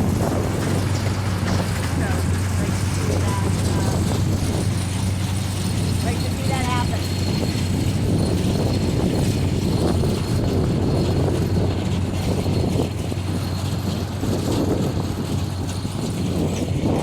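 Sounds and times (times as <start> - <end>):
tractor and baler running: 0.0 - 17.0.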